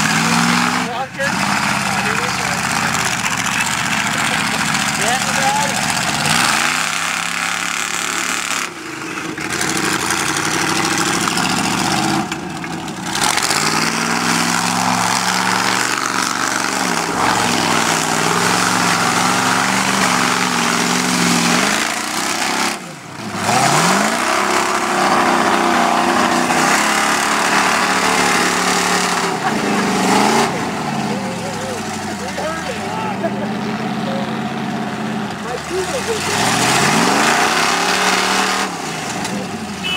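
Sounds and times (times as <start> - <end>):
engine revving hard: 0.0 - 12.4, 13.0 - 39.9.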